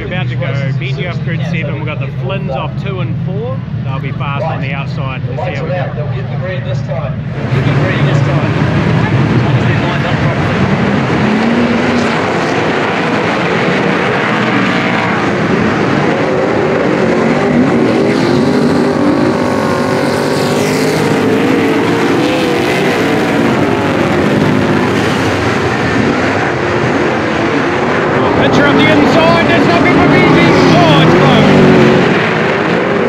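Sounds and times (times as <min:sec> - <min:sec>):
racing car engines roaring: 0:00.0 - 0:33.0.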